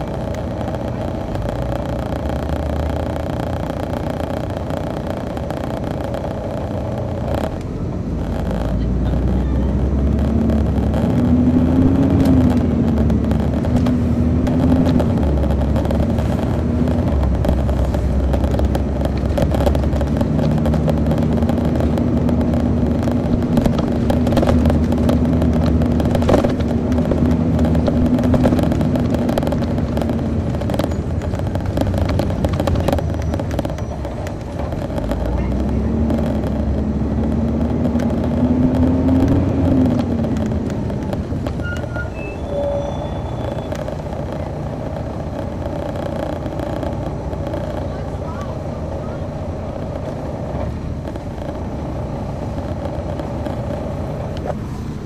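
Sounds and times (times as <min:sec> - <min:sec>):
diesel bus engine rumbling: 0:00.0 - 0:55.0.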